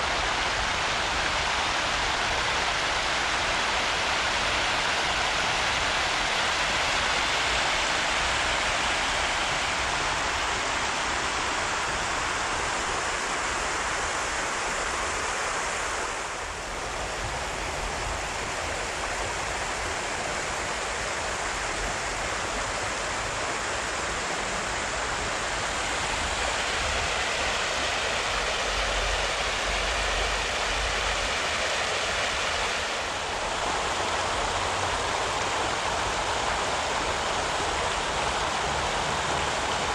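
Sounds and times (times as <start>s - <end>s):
water rushing over riverbank: 0.0s - 39.9s.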